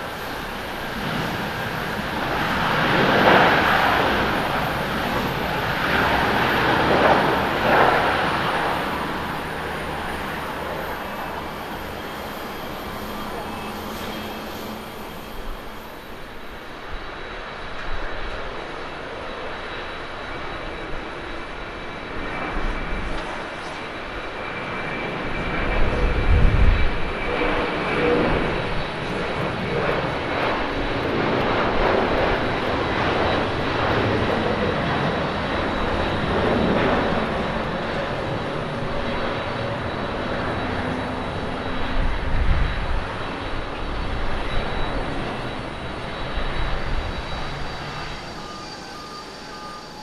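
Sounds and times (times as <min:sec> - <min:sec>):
jet engines at takeoff thrust: 0:00.0 - 0:50.0.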